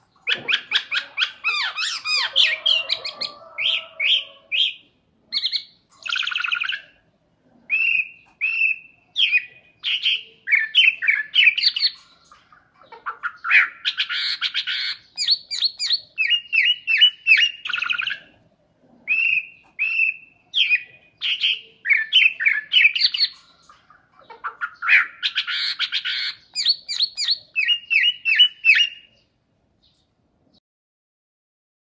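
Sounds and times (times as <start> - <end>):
blackbird singing: 0.0 - 7.1, 7.7 - 18.4, 19.1 - 30.1.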